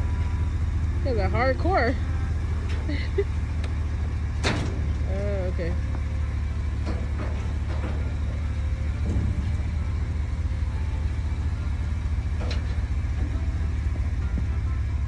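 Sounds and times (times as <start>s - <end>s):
truck engine idling: 0.0s - 15.0s
clanks from truck platform: 2.5s - 15.0s.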